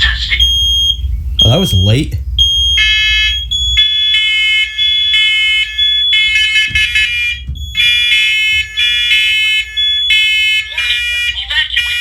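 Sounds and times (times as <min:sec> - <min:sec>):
smoke alarms beeping: 0:00.2 - 0:12.0.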